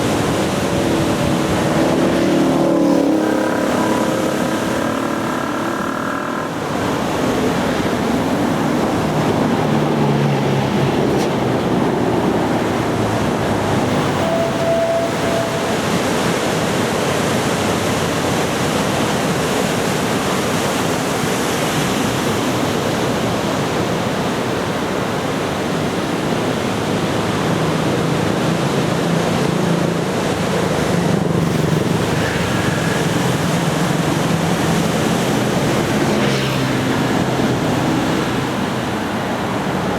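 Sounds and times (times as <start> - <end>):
surf breaking and washing ashore: 0.0 - 39.9
wind on microphone: 0.0 - 39.9.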